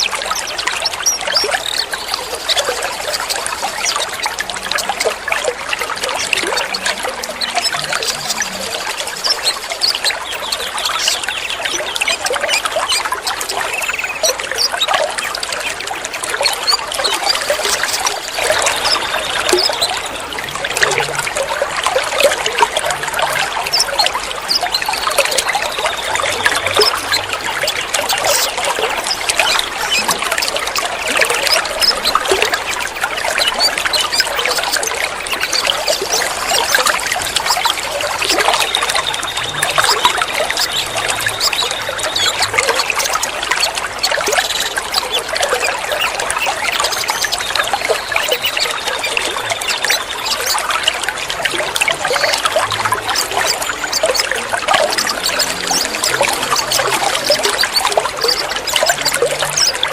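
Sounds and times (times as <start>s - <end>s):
bird chirps: 0.0s - 21.5s, 22.1s - 59.9s
water trickling: 0.0s - 59.9s.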